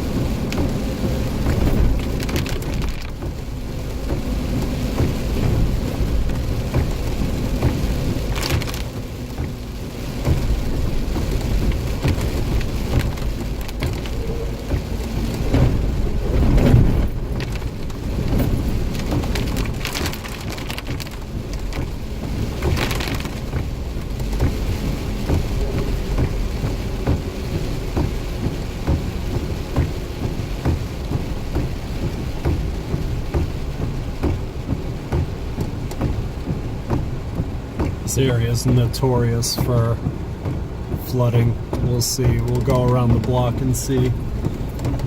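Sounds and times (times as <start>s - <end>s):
heavy rain: 0.0s - 45.0s
low thunder rumble: 0.0s - 45.0s
raindrops striking close by: 0.0s - 45.0s.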